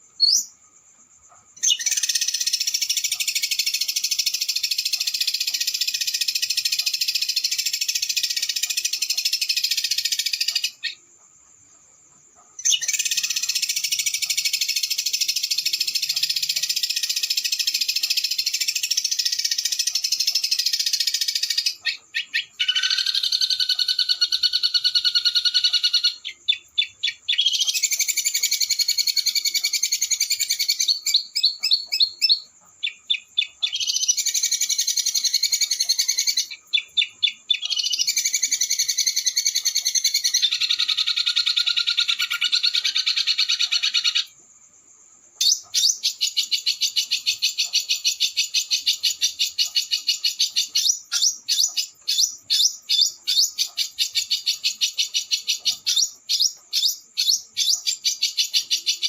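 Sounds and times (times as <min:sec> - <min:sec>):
songbird trilling: 0:01.6 - 0:11.0, 0:12.6 - 0:44.3, 0:45.4 - 0:59.0.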